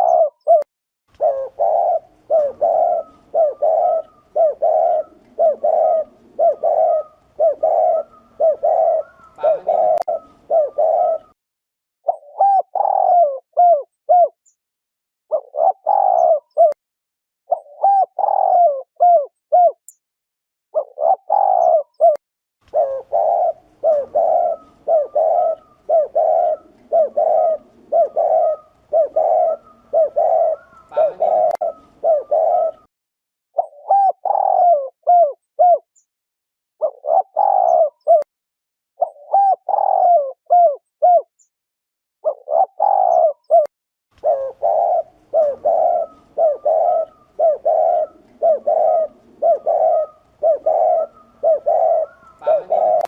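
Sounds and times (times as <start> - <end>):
dove cooing: 0.0 - 11.4, 12.1 - 14.4, 15.3 - 16.8, 17.5 - 19.8, 20.8 - 32.9, 33.6 - 35.9, 36.8 - 38.3, 39.0 - 41.3, 42.2 - 53.0.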